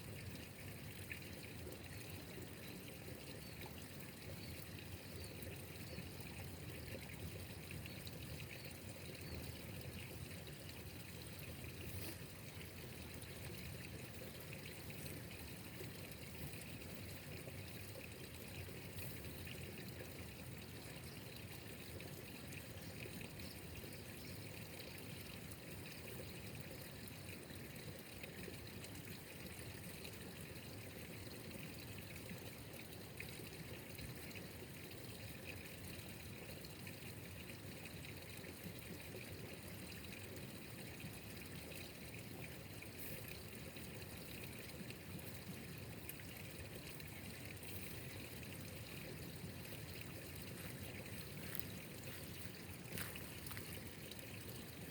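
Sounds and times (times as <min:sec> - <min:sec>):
water trickling: 0:00.0 - 0:54.9.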